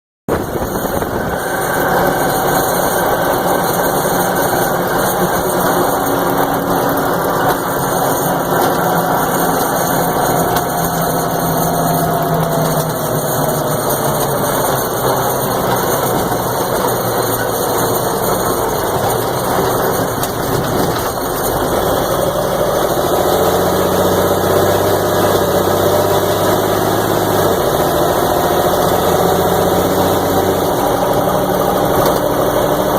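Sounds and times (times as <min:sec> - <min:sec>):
truck diesel engine running: 0:00.3 - 0:32.9.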